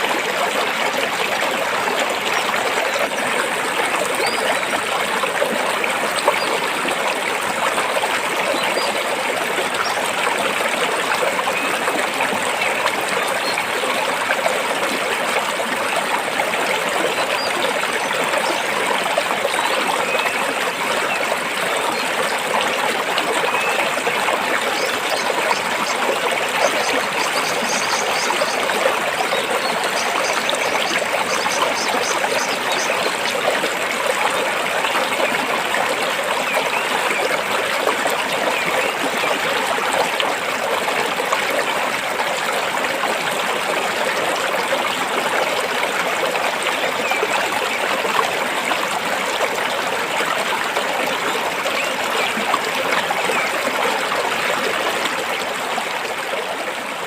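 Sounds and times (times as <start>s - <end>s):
stream water flowing over rocks: 0.0s - 57.0s.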